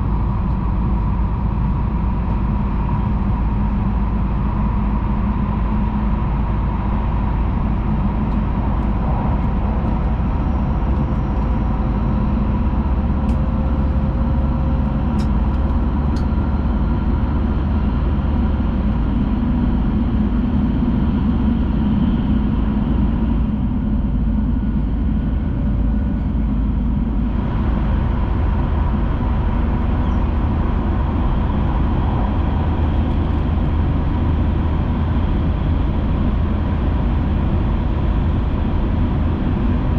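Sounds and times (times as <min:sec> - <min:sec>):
train rumble and rushing inside cabin: 0:00.0 - 0:39.9.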